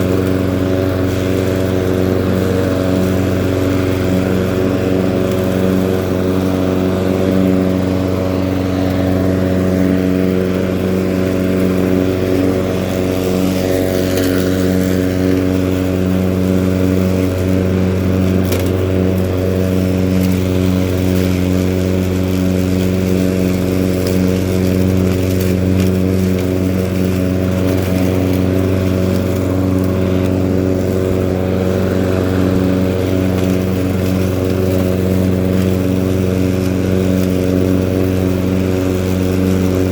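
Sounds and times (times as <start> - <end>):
lawn mower cutting thick grass: 0.0 - 39.9.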